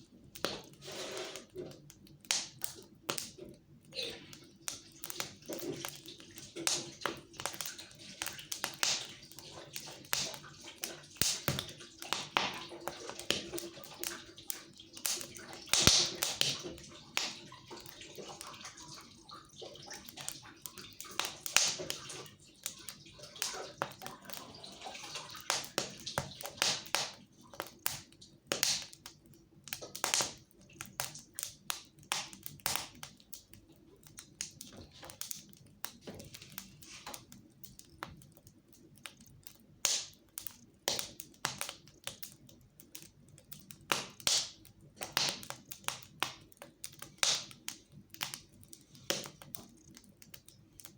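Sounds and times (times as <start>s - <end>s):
fire crackling: 0.0s - 50.9s
fire popping: 0.0s - 50.9s.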